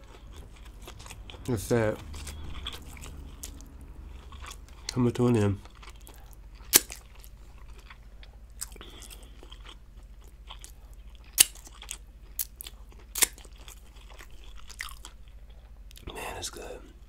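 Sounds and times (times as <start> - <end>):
quiet chewing: 0.0 - 5.0, 5.6 - 16.2.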